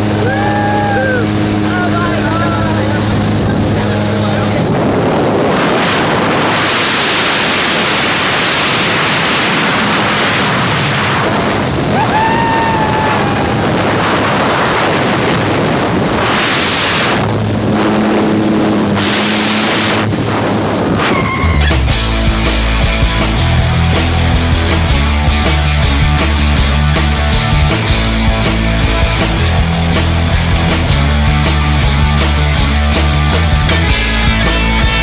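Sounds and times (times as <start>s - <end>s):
airplane engine drone: 0.0s - 35.0s
wind rushing on microphone: 0.0s - 35.0s.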